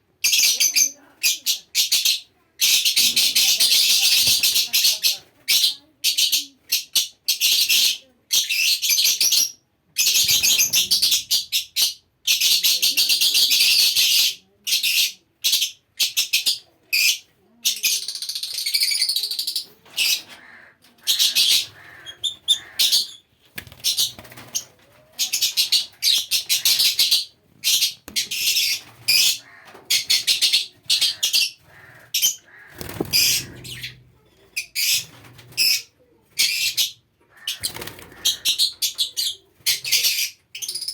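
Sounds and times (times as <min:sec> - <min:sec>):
parrots chirping and chattering: 0:00.2 - 0:40.9.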